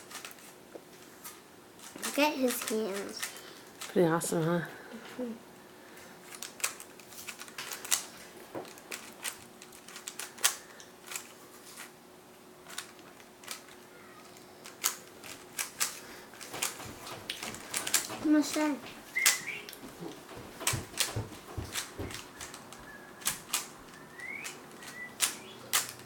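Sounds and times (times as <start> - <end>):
puzzle cube plastic clicks: 1.9 - 3.9, 6.2 - 11.9, 12.6 - 26.0.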